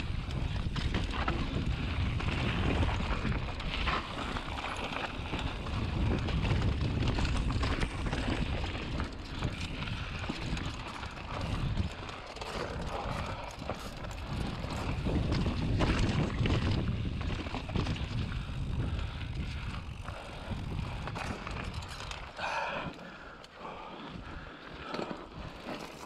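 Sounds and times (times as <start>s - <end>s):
wind buffeting microphone: 0.0s - 22.2s
bike rattling over bumps: 0.0s - 26.0s.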